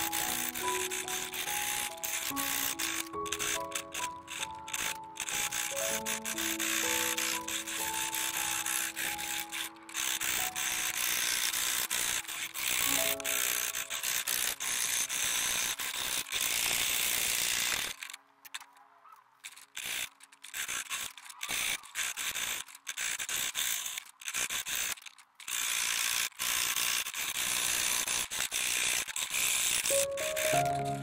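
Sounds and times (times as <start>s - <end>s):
saw blade rasping through metal: 0.0s - 18.0s, 19.5s - 31.0s.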